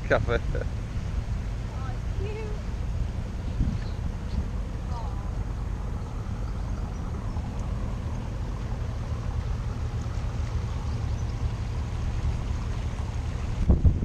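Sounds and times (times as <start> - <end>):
boat engine drone: 0.0 - 14.0
water noise: 0.0 - 14.0
wind buffeting microphone: 0.0 - 14.0.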